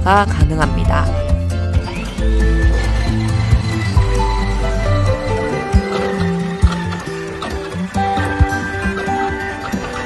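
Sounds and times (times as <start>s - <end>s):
held instrumental notes: 0.6s - 10.0s.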